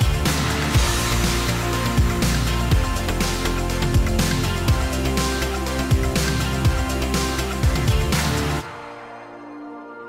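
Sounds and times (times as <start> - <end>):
bass notes: 0.0 - 8.6.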